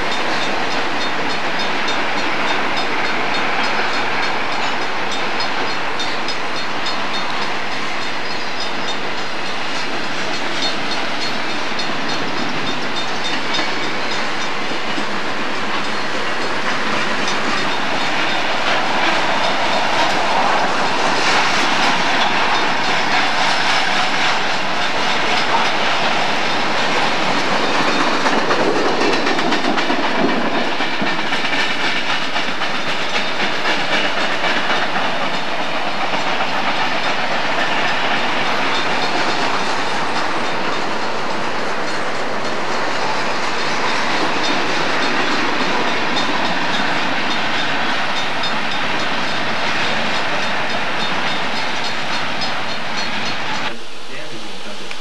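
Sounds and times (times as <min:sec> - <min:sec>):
wheels clacking over rail joints: 0:00.0 - 0:53.8
freight train rumbling past: 0:00.0 - 0:55.0.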